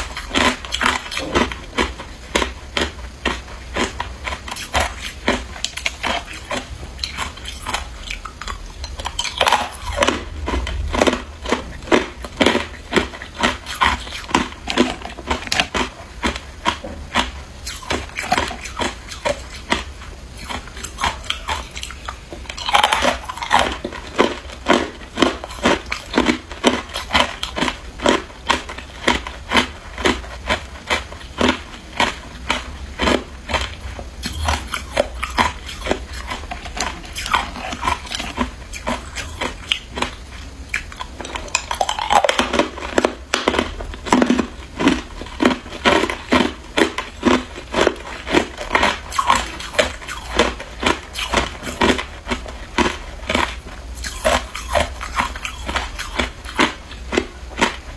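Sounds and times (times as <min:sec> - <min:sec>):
ice cubes crunching in teeth: 0:00.0 - 0:57.8.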